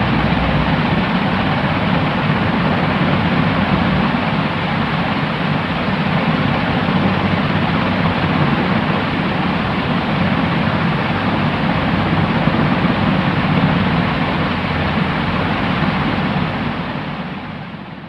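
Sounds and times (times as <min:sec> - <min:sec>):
white noise hiss: 0:00.0 - 0:18.0.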